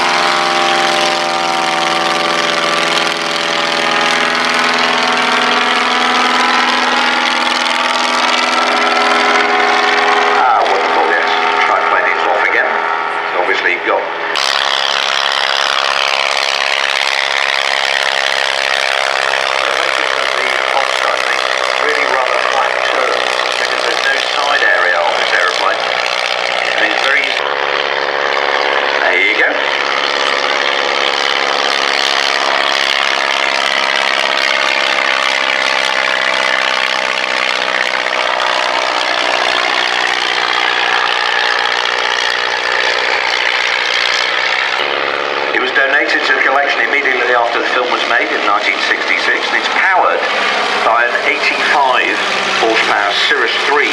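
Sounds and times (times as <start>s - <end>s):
aircraft piston engine drone: 0.0s - 53.9s.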